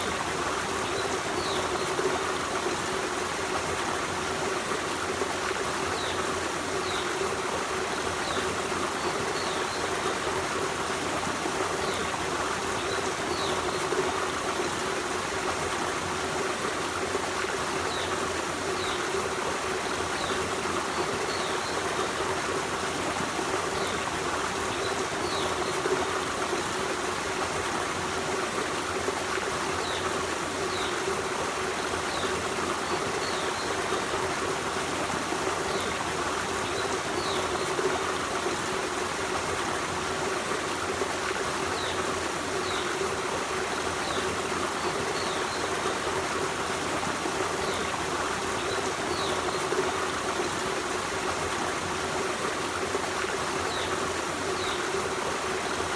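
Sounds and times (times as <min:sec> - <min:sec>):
stream running over rocks: 0:00.0 - 0:55.9.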